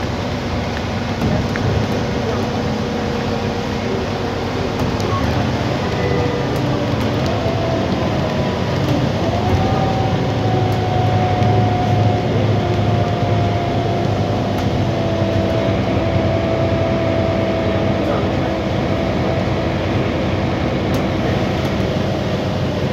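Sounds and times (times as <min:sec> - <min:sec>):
bus engine rumble with whine: 0:00.0 - 0:22.9.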